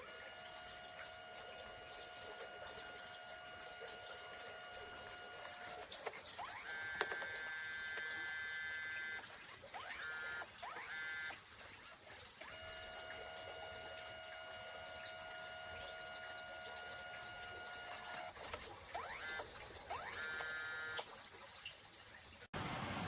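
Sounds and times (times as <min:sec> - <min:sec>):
printer feed motor whirring: 0:00.0 - 0:21.1.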